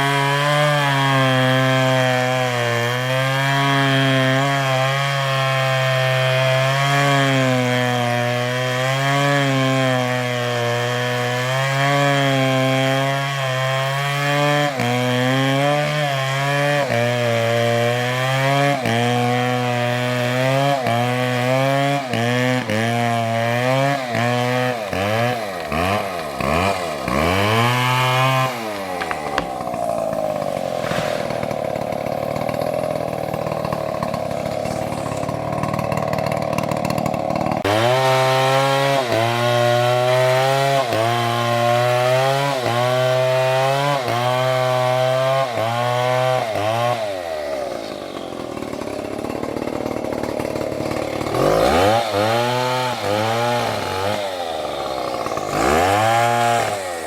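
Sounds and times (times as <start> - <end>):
chainsaw cutting tree: 0.0 - 57.0.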